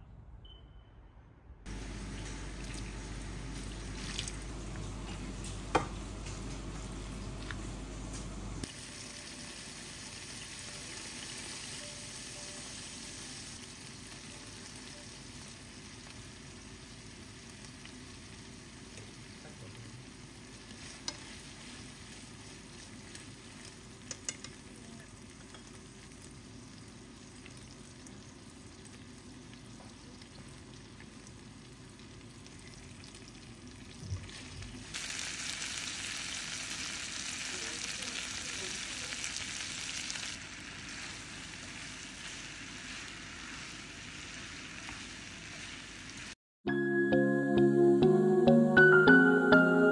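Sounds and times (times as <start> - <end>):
chicken sizzling in frying pan: 1.7 - 46.4.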